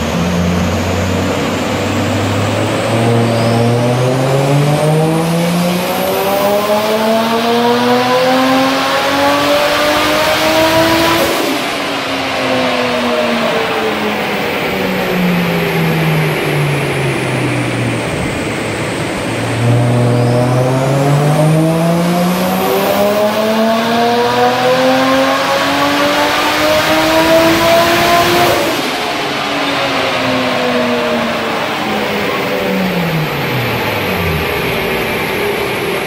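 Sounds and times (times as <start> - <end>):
turbocharged car engine revving: 0.0 - 36.0.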